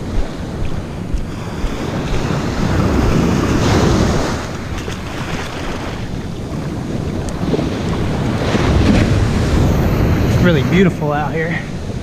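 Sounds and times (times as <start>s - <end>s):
surf washing up beach: 0.0s - 12.0s
wind rumbling on microphone: 0.0s - 12.0s.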